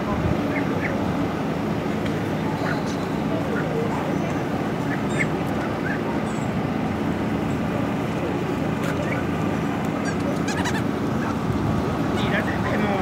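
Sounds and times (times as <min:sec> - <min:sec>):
distant crowd murmur: 0:00.0 - 0:13.0.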